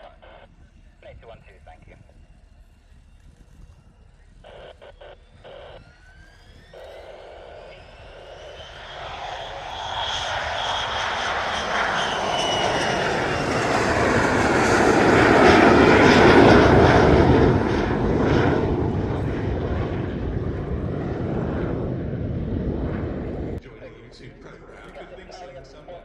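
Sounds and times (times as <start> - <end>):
high engine whine: 0.0 - 25.8
aircraft engines passing: 0.0 - 26.0.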